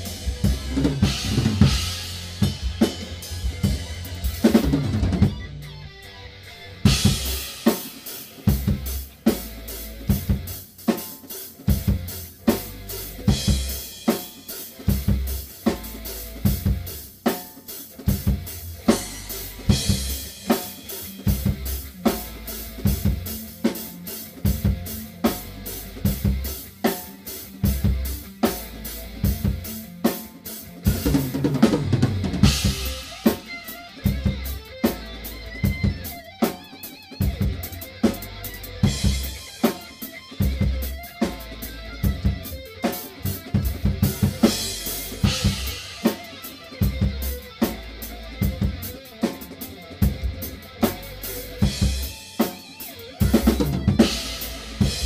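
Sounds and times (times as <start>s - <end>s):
rock drum kit beat: 0.0s - 55.0s.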